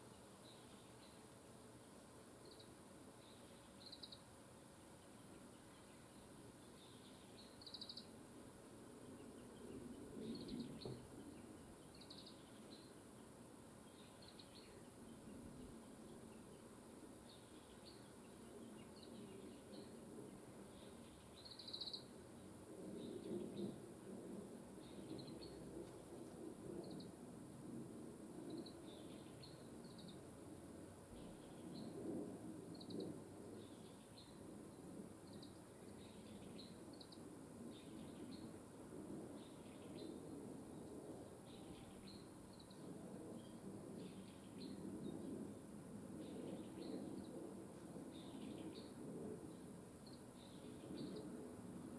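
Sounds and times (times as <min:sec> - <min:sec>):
songbirds chirping: 0:00.0 - 0:27.2, 0:28.3 - 0:51.9
wind rustling leaves: 0:00.0 - 0:51.9.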